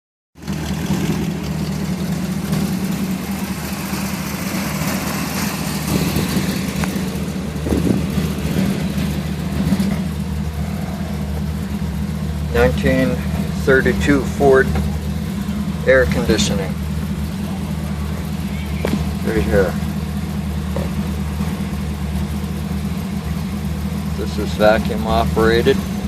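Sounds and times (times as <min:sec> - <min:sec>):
car engine idling: 0:00.4 - 0:26.0.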